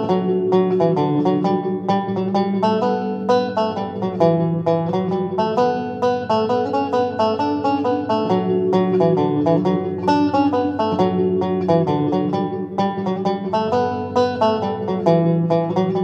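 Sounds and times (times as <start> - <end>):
banjo playing waltz tune: 0.0 - 16.0.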